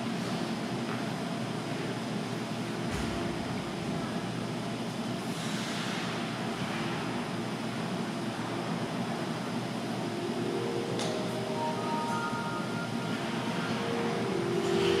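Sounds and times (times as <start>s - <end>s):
ice rink hum and hiss: 0.0s - 15.0s.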